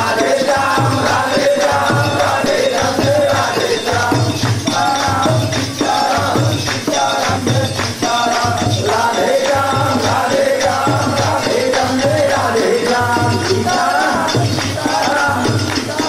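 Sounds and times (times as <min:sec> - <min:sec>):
group singing: 0:00.0 - 0:16.0
jingling hand percussion: 0:00.0 - 0:16.0
people clapping: 0:00.0 - 0:16.0.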